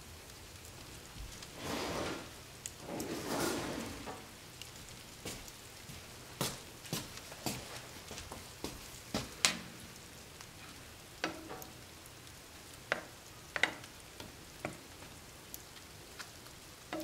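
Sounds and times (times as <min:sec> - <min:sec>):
wood fire crackling: 0:00.0 - 0:17.0
fire hissing rushes: 0:00.6 - 0:16.6.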